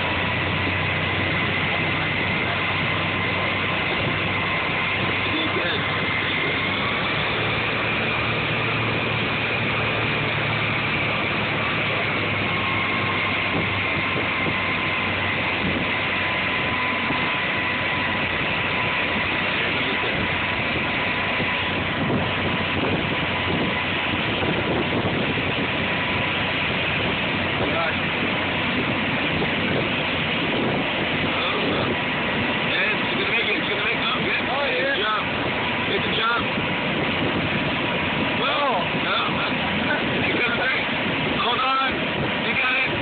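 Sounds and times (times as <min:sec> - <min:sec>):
churning wake rushing: 0:00.0 - 0:43.0
motorboat engine whine: 0:00.0 - 0:43.0.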